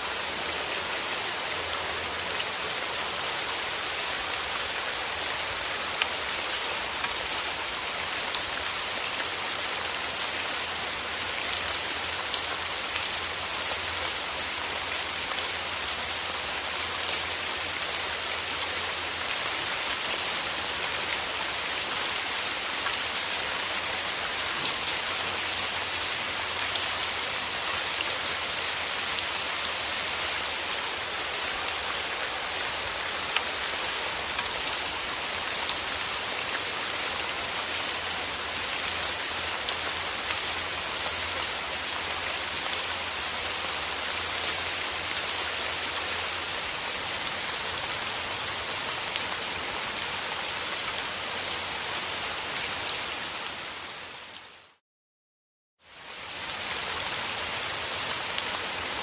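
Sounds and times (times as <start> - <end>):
steady rain hiss: 0.0 - 54.8, 55.9 - 59.0.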